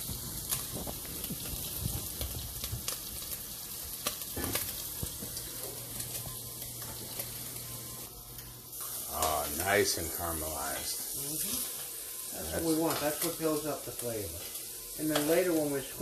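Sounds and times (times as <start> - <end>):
sausage sizzling in a hot pan: 0.0 - 16.0.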